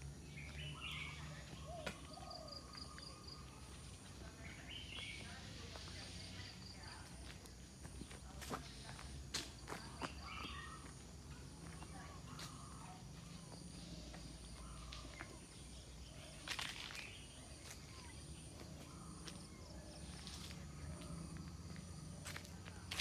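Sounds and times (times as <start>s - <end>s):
footsteps outdoors: 0.0s - 23.0s.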